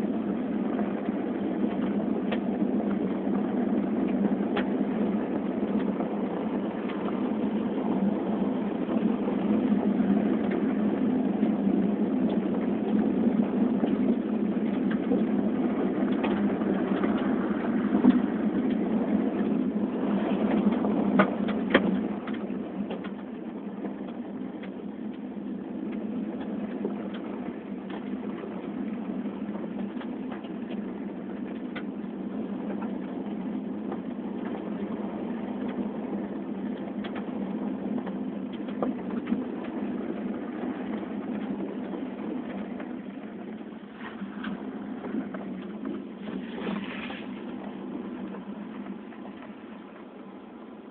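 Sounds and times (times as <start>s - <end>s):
car engine and tyre rumble: 0.0s - 50.9s.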